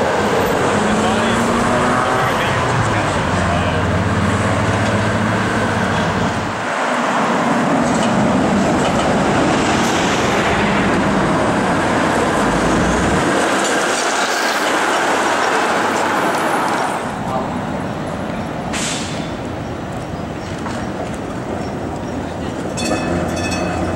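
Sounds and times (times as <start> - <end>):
street traffic: 0.0 - 23.9
streetcar wheels rolling on rails: 0.0 - 23.9.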